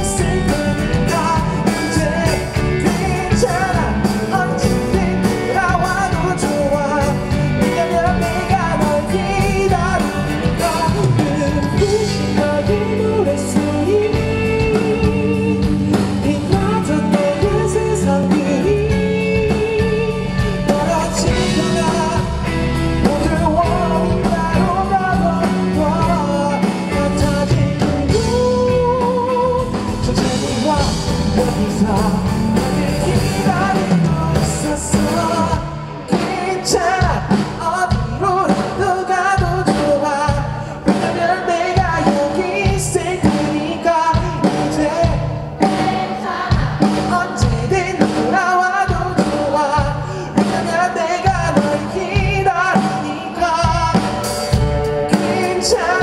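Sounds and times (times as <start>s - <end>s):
man singing live: 0.0s - 56.0s
pop-rock band playing: 0.0s - 56.0s.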